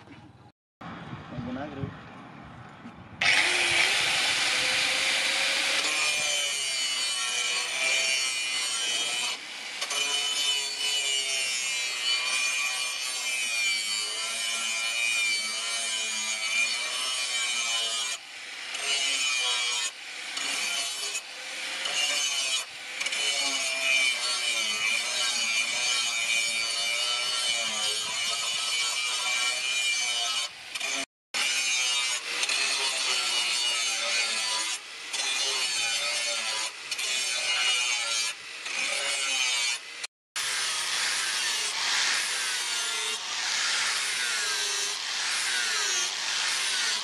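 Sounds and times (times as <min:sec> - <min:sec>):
angle grinder grinding steel: 0:03.2 - 0:47.0.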